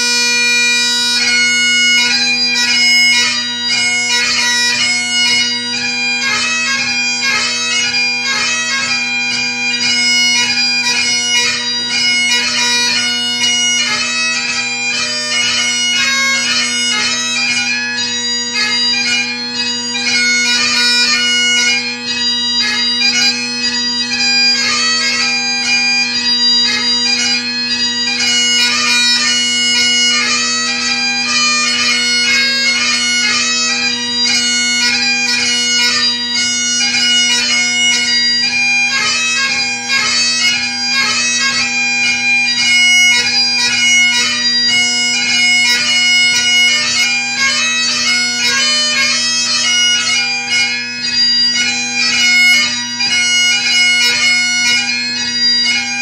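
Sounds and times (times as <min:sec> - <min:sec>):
bagpipe playing: 0:00.0 - 0:56.0.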